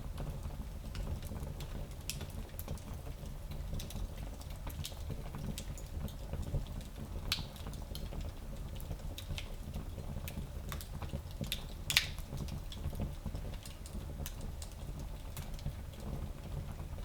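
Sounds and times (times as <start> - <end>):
wood fire crackling and popping: 0.1 - 17.0.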